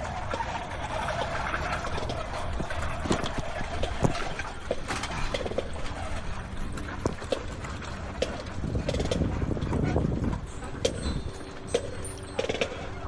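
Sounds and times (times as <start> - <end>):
low rumble of wheels: 0.0 - 13.0.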